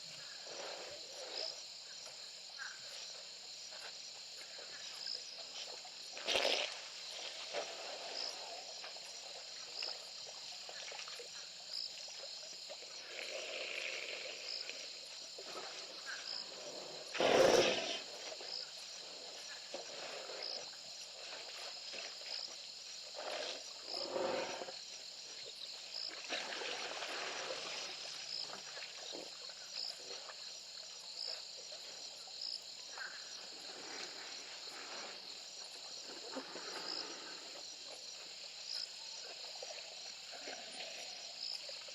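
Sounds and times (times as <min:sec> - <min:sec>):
insects chirping and droning: 0:00.0 - 0:41.9.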